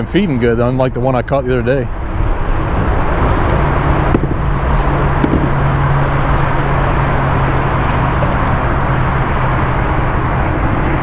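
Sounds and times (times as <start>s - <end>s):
low hum: 0.0s - 11.0s
loud rushing noise: 1.9s - 11.0s.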